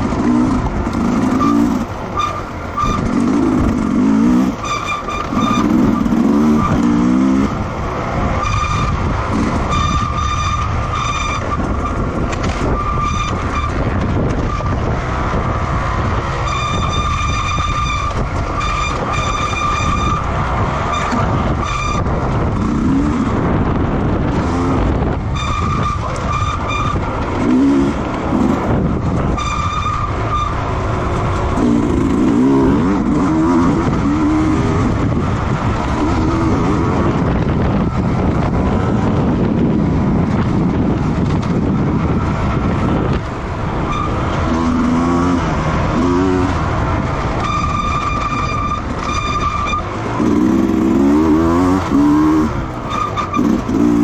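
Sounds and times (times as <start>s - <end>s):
motorcycle race engines: 0.0s - 54.0s.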